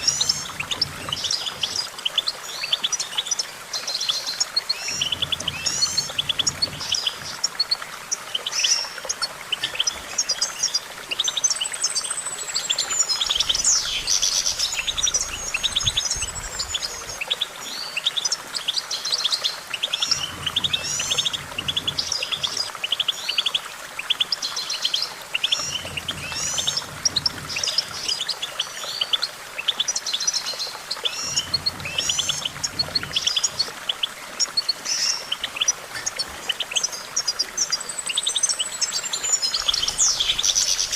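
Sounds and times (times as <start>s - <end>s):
goldfinch twittering song: 0.0s - 40.9s.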